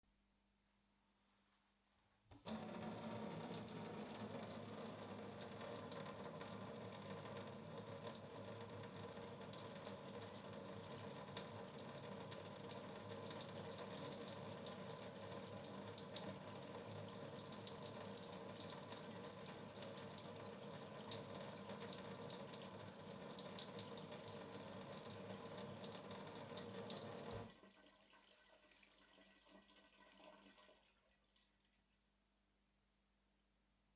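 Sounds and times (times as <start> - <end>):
tap water running into sink: 2.4 - 31.5.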